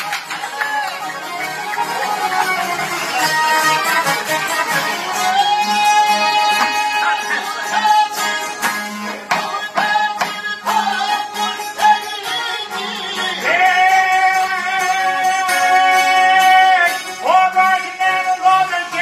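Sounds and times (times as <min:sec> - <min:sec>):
strummed plucked lutes: 0:00.0 - 0:19.0.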